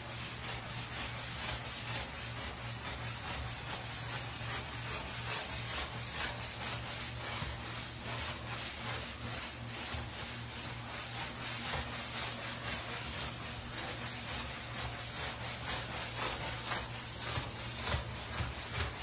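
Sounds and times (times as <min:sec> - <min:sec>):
scrubbing a wet wooden floor: 0:00.0 - 0:19.0
steady low hum: 0:00.0 - 0:19.0.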